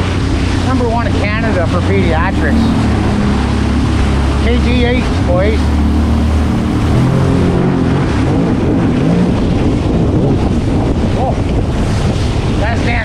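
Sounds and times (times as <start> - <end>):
water spray rushing against hull: 0.0 - 13.0
watercraft engine running: 0.0 - 13.0
wind buffeting microphone: 0.0 - 13.0.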